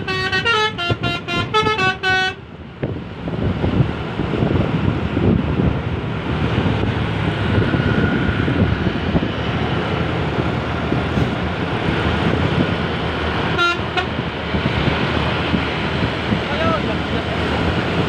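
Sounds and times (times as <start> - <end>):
road traffic rumble: 0.0 - 18.0
wind on microphone: 2.5 - 18.0.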